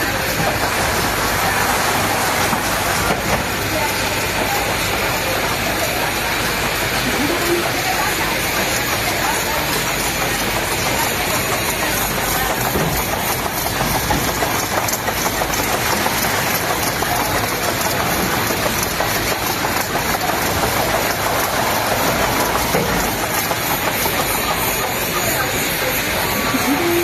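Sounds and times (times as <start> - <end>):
factory machinery running: 0.0 - 27.0.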